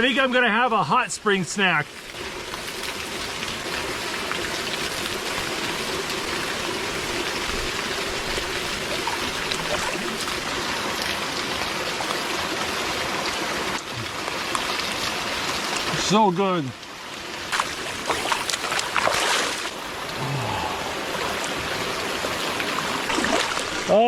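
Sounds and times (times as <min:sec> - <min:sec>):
water rushing and splashing into pool: 0:00.0 - 0:24.0.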